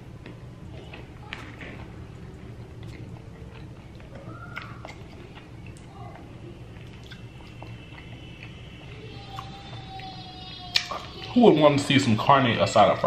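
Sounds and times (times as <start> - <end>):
steady low hum: 0.0 - 13.0
person chewing food: 0.1 - 11.4.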